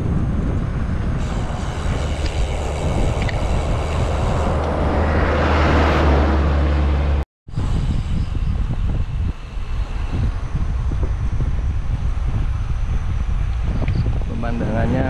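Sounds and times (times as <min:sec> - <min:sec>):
truck engine and tyre noise: 0:00.0 - 0:14.8
wind rumbling on microphone: 0:00.0 - 0:15.0.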